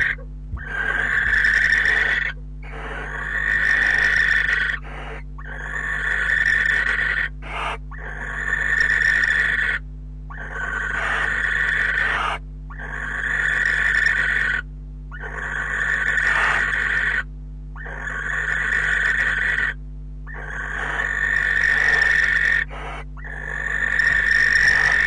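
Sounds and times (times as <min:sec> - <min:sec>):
barn owl rasping hiss calls: 0:00.0 - 0:25.0.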